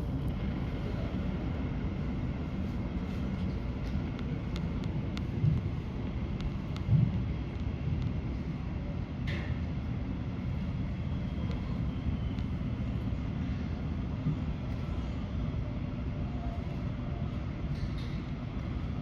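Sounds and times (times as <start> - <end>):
aircraft rumble: 0.0 - 15.3.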